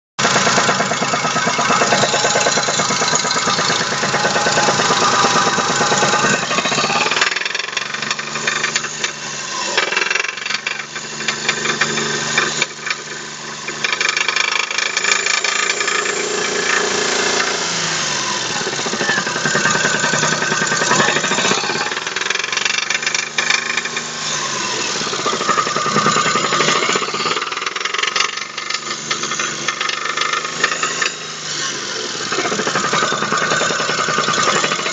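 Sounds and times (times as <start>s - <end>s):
engine knocking: 0.2s - 31.3s, 31.9s - 34.9s.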